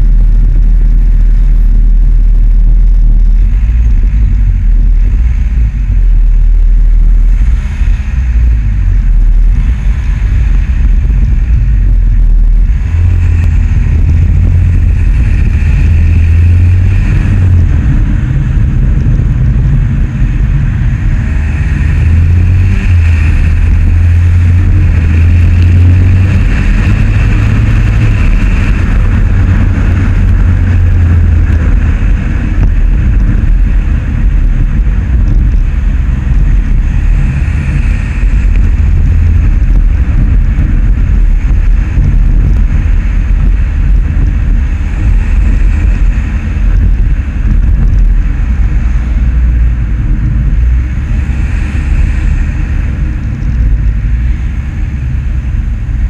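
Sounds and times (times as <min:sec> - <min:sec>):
road and wind rumble: 0:00.0 - 0:56.0.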